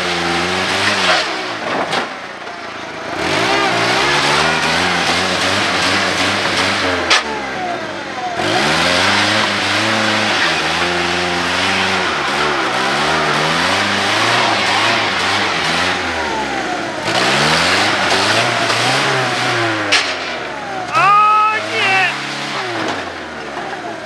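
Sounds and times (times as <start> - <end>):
wheels spinning in mud: 0.0 - 20.9
truck engine revving: 0.0 - 24.0.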